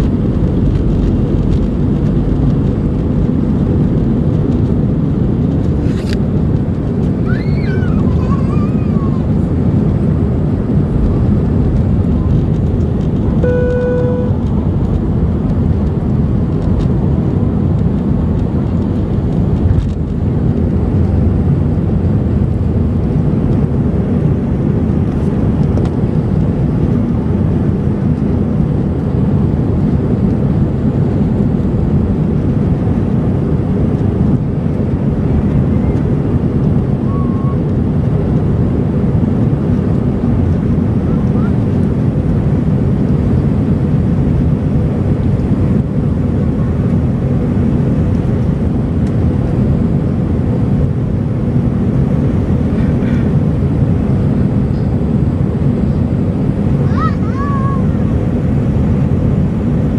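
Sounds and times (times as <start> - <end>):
jet engine rumble in cabin: 0.0 - 59.9.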